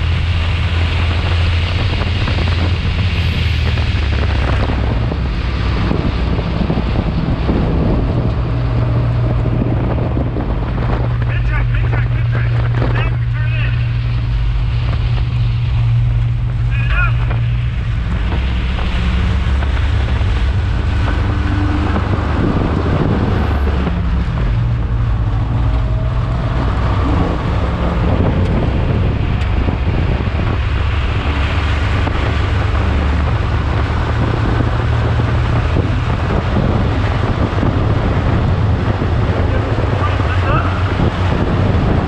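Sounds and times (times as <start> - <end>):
race car engine: 0.0 - 42.0
wind buffeting microphone: 0.0 - 42.0.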